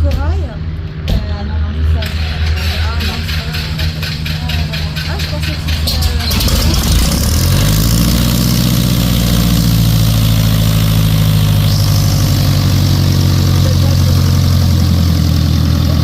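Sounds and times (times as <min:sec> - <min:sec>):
aircraft piston engine idling: 0:01.7 - 0:16.0.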